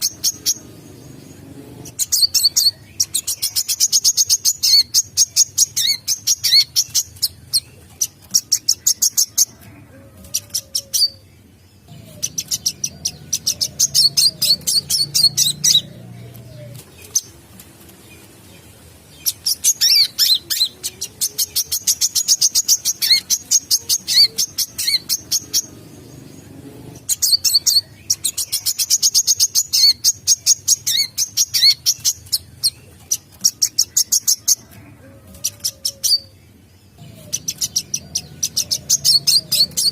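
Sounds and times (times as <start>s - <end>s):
bird singing high chirps: 0.0s - 9.7s, 10.3s - 17.3s, 19.2s - 34.7s, 35.5s - 39.9s.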